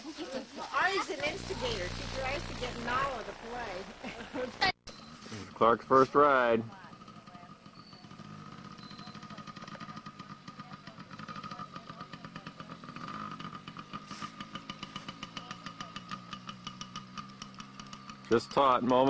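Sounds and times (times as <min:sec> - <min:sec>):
small dirt bike engine running: 0:00.7 - 0:19.0.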